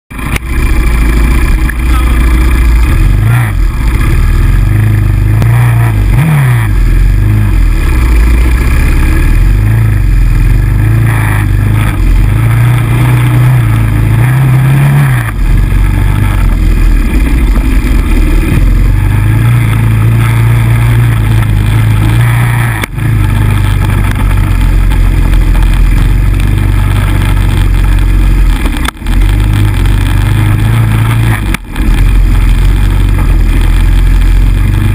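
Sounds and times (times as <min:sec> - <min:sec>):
quad engine revving: 0:00.1 - 0:34.9.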